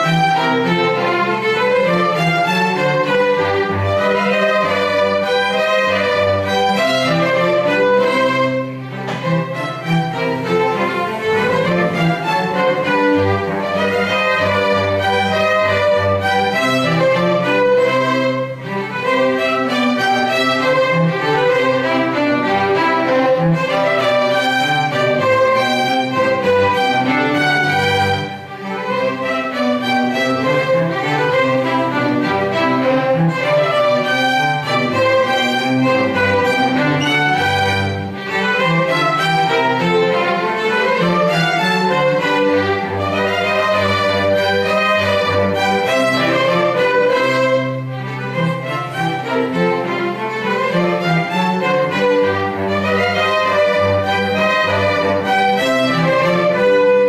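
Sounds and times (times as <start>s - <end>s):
cello bowing: 0.0s - 57.0s
violins bowing: 0.0s - 57.0s.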